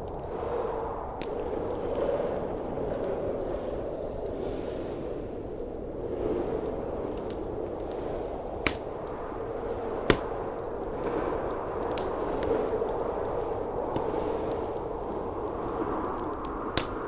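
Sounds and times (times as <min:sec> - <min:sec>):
blizzard wind roaring: 0:00.0 - 0:17.0
wood fire crackling and popping: 0:00.0 - 0:17.0.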